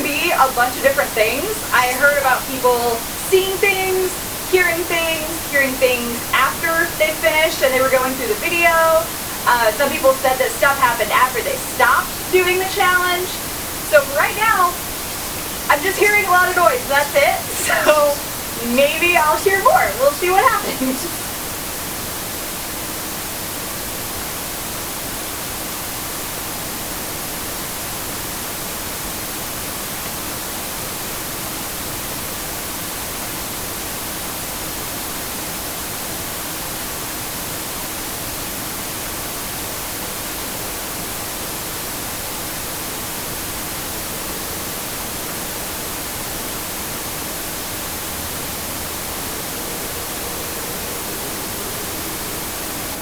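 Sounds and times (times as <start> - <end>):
faint steady hum: 0.0 - 53.0
white noise static hiss: 0.0 - 53.0.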